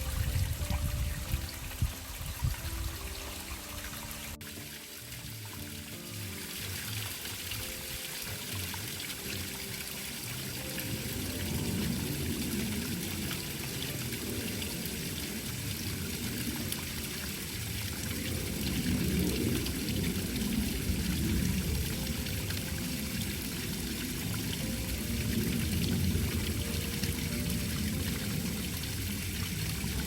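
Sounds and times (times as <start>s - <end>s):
water running and splashing: 0.0s - 30.0s.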